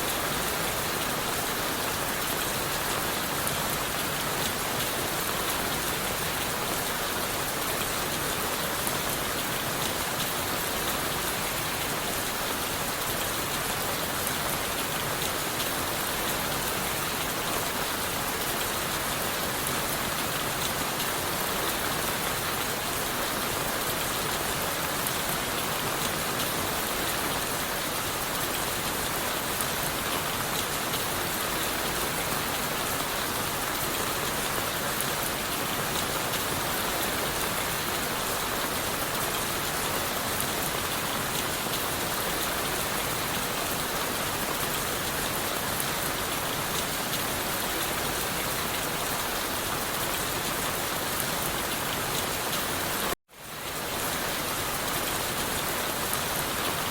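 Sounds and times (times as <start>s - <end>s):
rain on leaves and wooden shelter: 0.0s - 56.9s.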